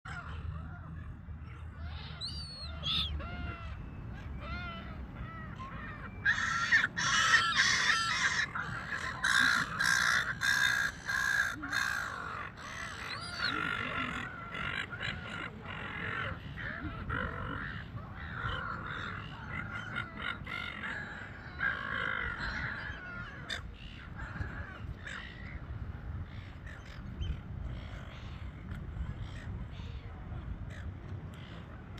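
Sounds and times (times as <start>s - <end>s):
gulls calling: 0.1s - 31.9s.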